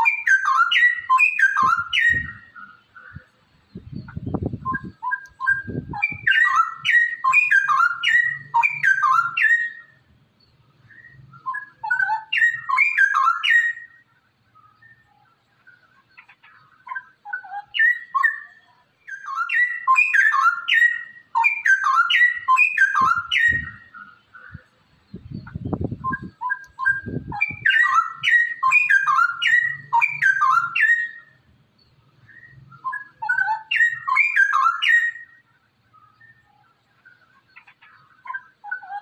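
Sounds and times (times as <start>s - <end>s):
bird singing whistled notes: 0.0s - 39.0s.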